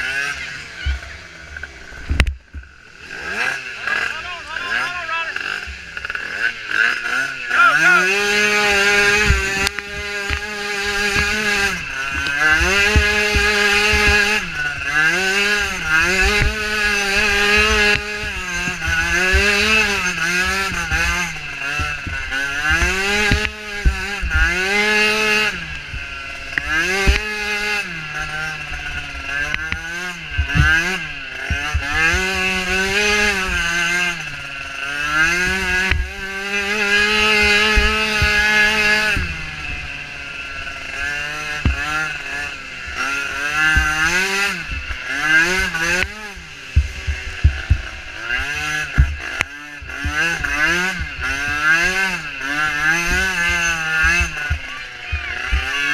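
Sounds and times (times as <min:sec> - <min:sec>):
small atv engine revving: 0:00.0 - 0:55.9.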